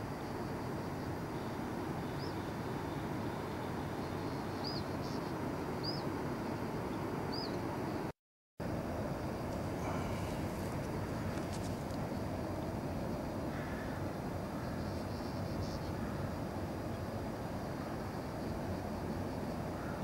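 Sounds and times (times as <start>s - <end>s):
low rushing background noise: 0.0s - 20.0s.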